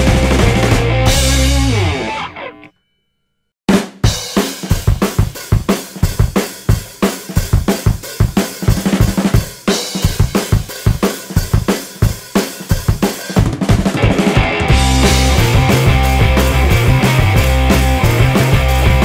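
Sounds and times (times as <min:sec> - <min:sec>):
rock music with fast drum beat: 0:00.0 - 0:02.4, 0:03.7 - 0:19.0.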